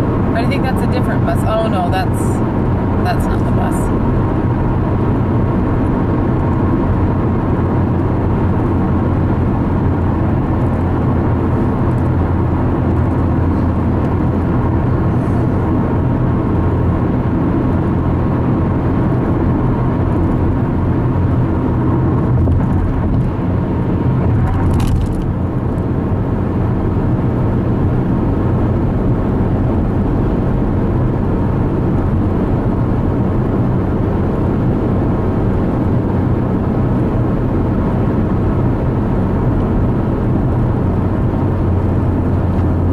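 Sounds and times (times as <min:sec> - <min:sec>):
car road noise: 0:00.0 - 0:42.9.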